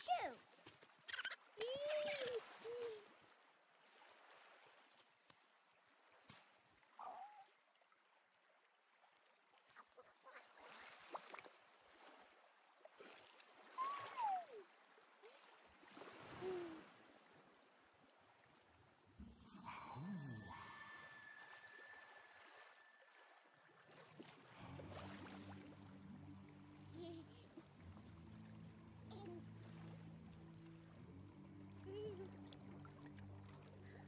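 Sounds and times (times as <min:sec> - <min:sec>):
small waves lapping on sand: 0:00.0 - 0:34.0.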